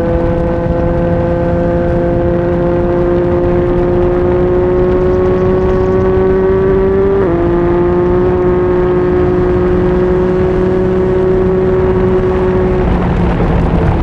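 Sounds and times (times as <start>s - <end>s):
motorcycle engine shifting gear: 0.0s - 14.0s.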